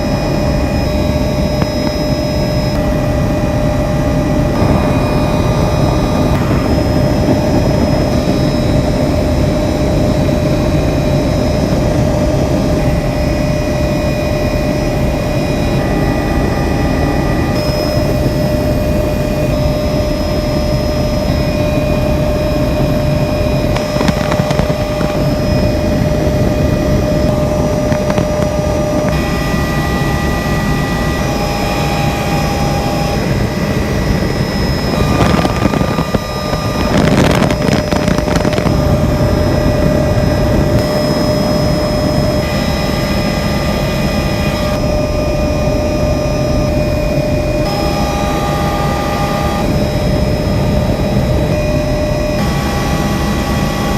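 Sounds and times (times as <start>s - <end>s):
helicopter rotor and engine drone: 0.0s - 53.9s
rush of noise: 0.0s - 53.9s
steady whine tones: 0.0s - 53.9s.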